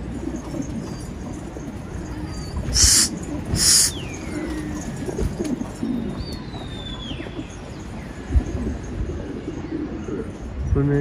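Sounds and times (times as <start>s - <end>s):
pigeons cooing: 0.0s - 10.7s.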